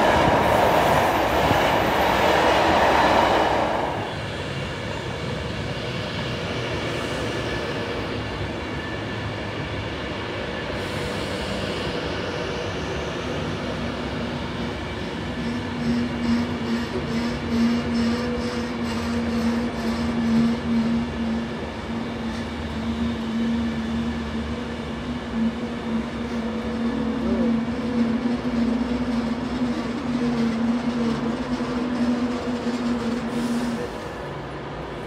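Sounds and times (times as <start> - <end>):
train low hum: 0.0 - 35.0
train wheels on rails: 0.0 - 35.0.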